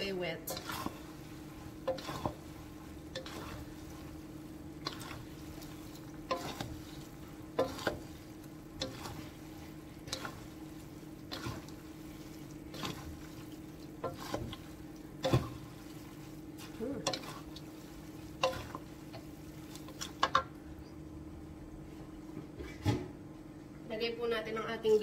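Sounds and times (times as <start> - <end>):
spatulas knocking and scraping wok: 0.0 - 20.5
light sizzle: 0.0 - 21.5
steady low hum: 0.0 - 25.0.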